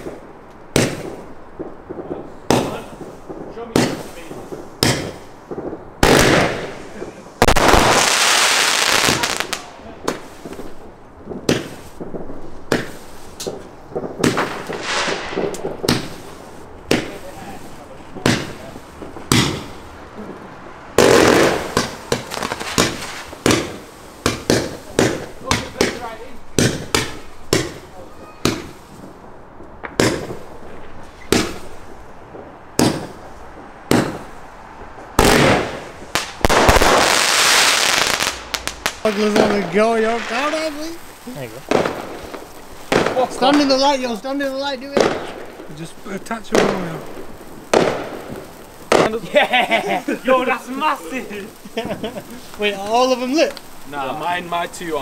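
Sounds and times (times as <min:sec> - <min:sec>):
fireworks bangs: 0:00.0 - 0:55.0
fireworks crackling fizz: 0:00.0 - 0:55.0.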